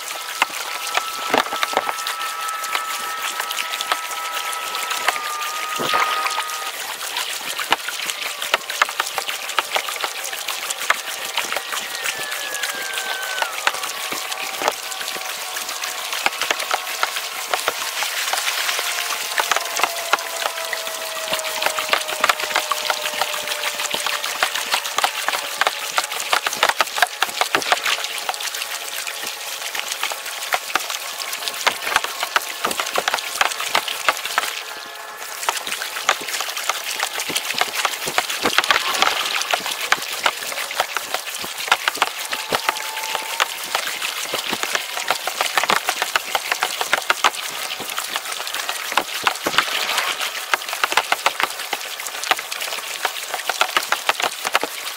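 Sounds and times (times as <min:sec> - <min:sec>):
water splashing along kayak hull: 0:00.0 - 0:54.9.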